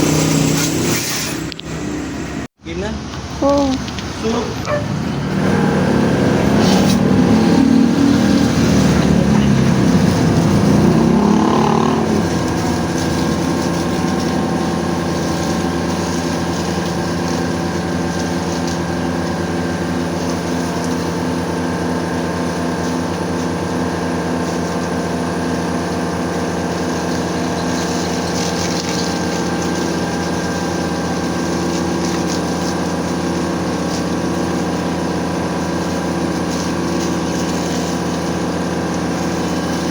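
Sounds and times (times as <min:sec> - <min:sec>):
pressure washer pump motor humming: 0:00.0 - 0:39.9.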